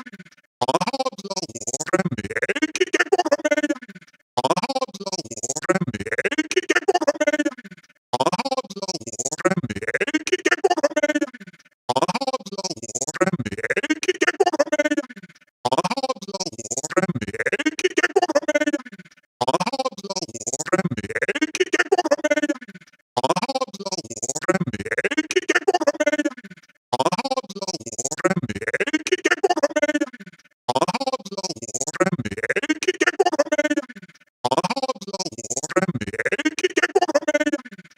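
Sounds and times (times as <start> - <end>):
stuttering robotic voice: 0.0 - 37.9.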